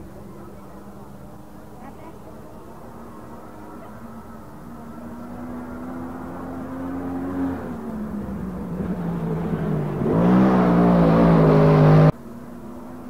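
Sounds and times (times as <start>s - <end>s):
race car engine at speed: 0.0s - 13.0s.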